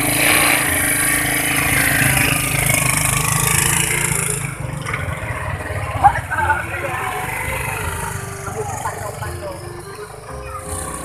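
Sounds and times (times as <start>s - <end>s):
motor scooter engine running: 0.0s - 11.0s.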